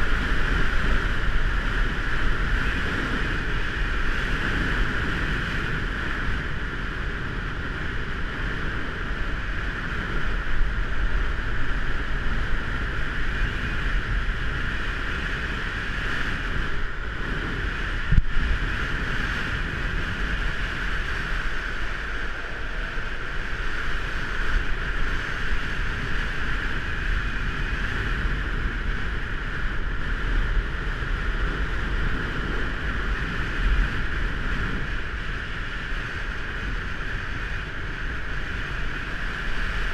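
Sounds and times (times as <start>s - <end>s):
skateboard wheels rolling on asphalt: 0.0s - 39.9s
wind buffeting camera: 0.0s - 39.9s.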